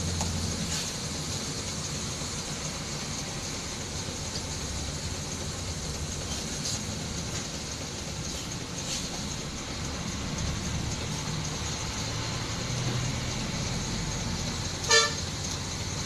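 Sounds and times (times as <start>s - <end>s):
bus diesel engine drone: 0.0s - 16.0s
road and wind noise: 0.0s - 16.0s.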